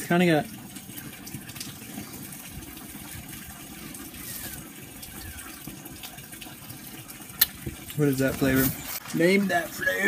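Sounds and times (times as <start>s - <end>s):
wet chewing and slurping: 1.0s - 9.1s.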